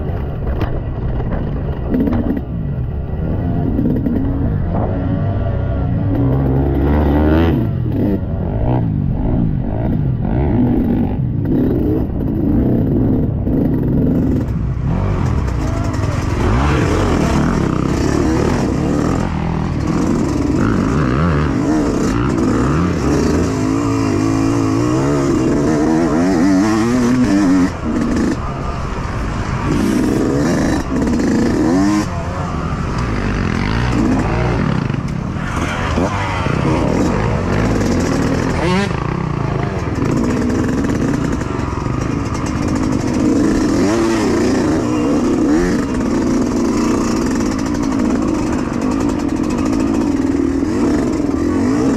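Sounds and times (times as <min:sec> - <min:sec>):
dirt bike engine revving: 0:01.6 - 0:51.9.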